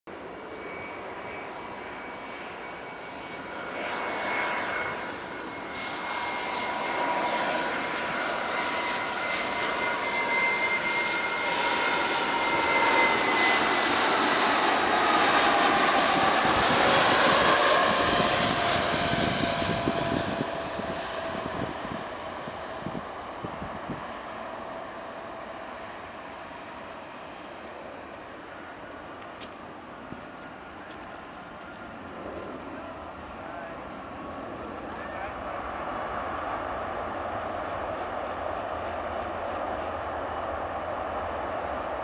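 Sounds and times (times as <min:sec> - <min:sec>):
jet engine whine: 0:00.1 - 0:42.0.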